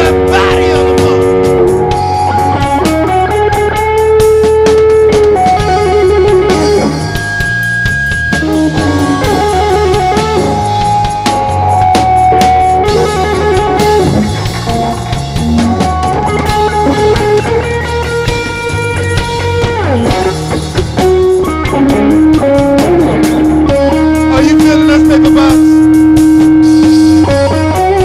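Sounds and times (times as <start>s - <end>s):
electric guitar pitch slide: 0.0s - 28.0s
rock band playing: 0.0s - 28.0s.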